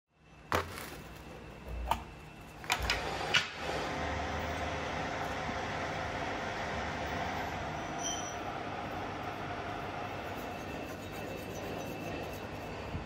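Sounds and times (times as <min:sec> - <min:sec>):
machine rumble with low hum: 0:00.2 - 0:13.0.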